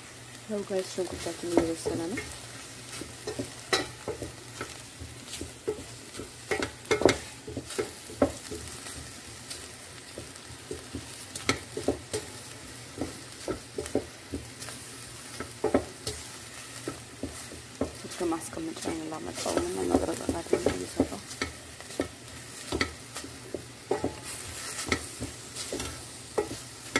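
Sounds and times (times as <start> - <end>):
onions sizzling: 0.0 - 26.9.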